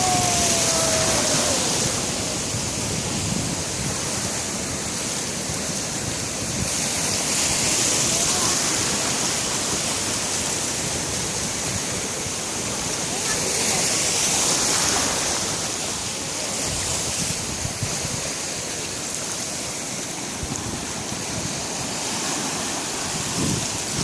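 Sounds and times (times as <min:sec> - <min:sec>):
waves breaking: 0:00.0 - 0:24.0.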